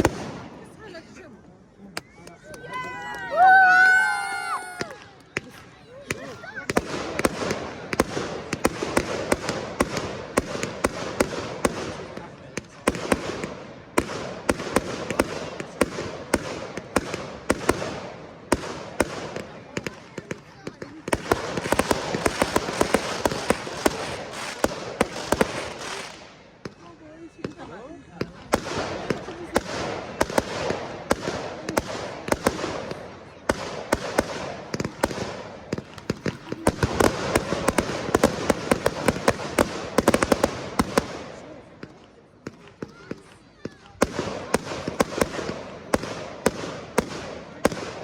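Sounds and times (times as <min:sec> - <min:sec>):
fireworks bangs: 0:00.0 - 0:01.0, 0:03.3 - 0:26.8, 0:28.2 - 0:48.0
fireworks crackle: 0:03.3 - 0:26.8, 0:28.4 - 0:48.0.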